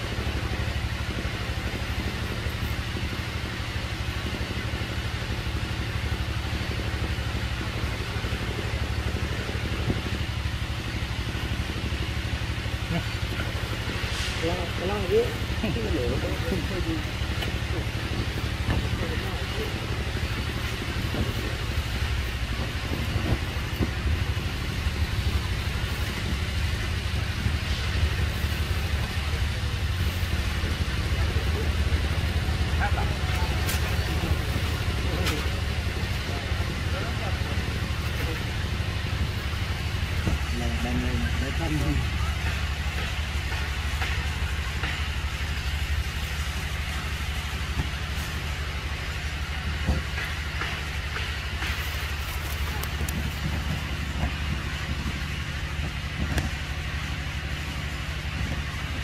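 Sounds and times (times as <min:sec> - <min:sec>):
hiss: 0:00.0 - 0:59.0
low engine-like hum: 0:00.0 - 0:59.0
steady low rumble: 0:00.0 - 0:59.0.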